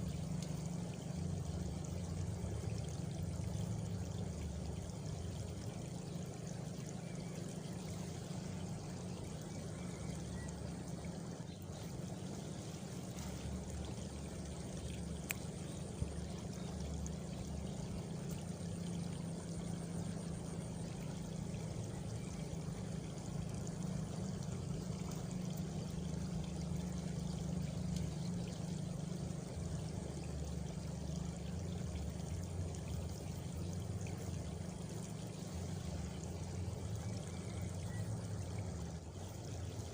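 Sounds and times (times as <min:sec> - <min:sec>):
faint cricket trill: 0:00.0 - 0:39.9
running water: 0:00.0 - 0:39.9.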